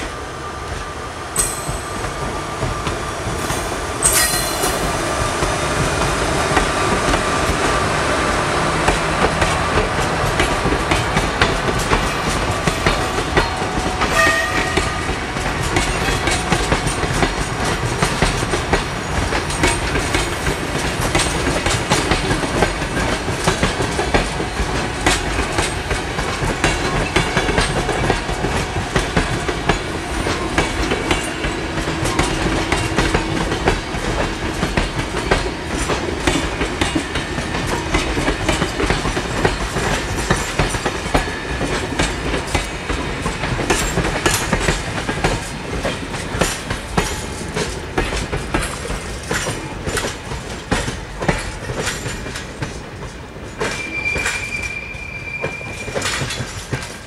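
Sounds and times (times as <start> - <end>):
passing train rumble: 0.0 - 57.0.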